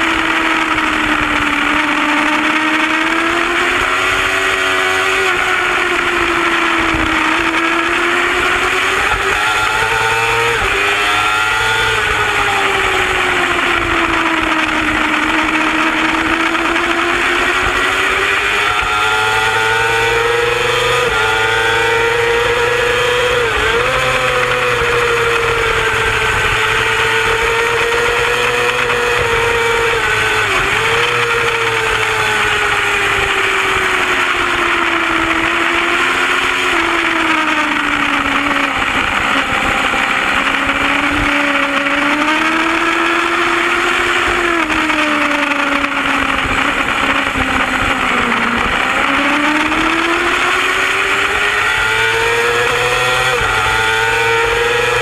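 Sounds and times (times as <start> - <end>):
superbike engine at racing speed: 0.0 - 55.0.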